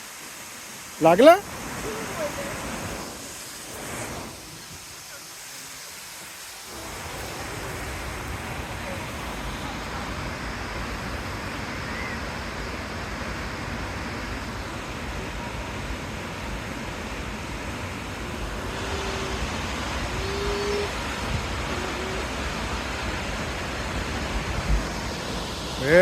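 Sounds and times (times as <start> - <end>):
mountain stream rushing: 0.0 - 26.0.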